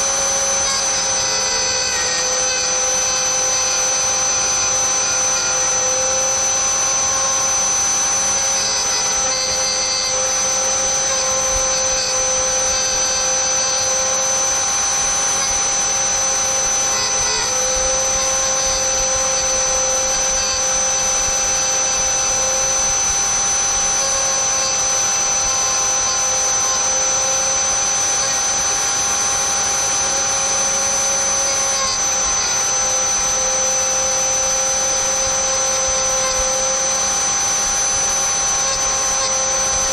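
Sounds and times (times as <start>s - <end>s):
rotary tool whining: 0.0s - 39.9s.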